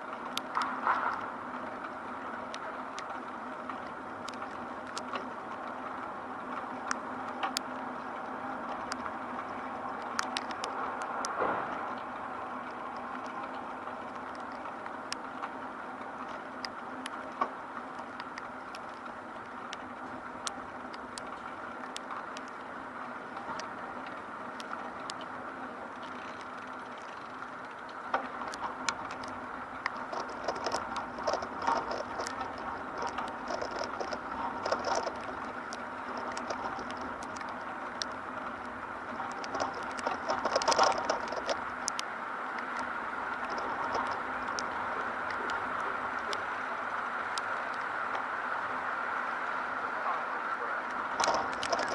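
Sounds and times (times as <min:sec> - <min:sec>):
city street hum: 0:00.0 - 0:51.9
rain pattering: 0:00.0 - 0:51.9.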